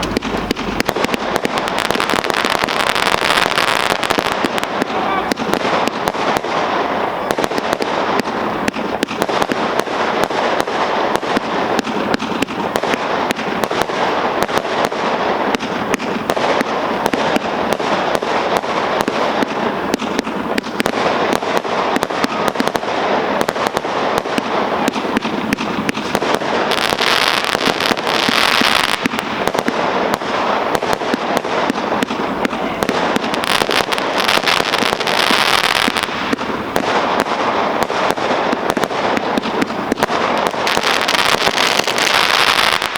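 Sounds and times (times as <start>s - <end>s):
fireworks barrage: 0.0s - 42.9s.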